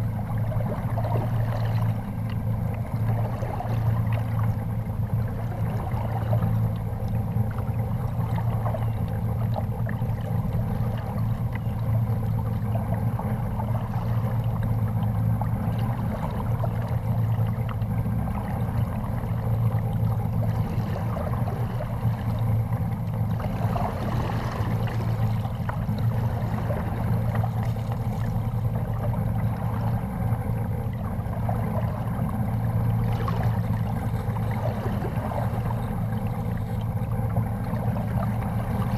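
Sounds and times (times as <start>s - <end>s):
low hum: 0.0s - 38.9s
water lapping against hull: 0.0s - 38.9s.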